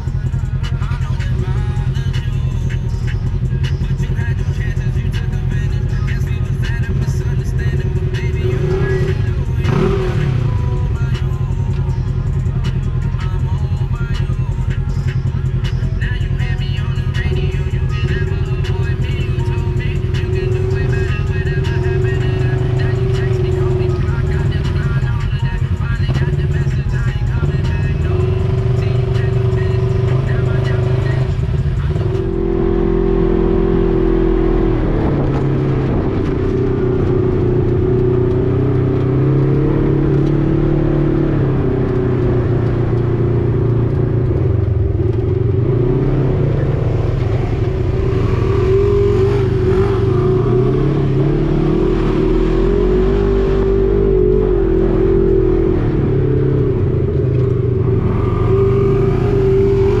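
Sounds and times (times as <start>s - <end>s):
engine running and revving: 0.0s - 60.0s.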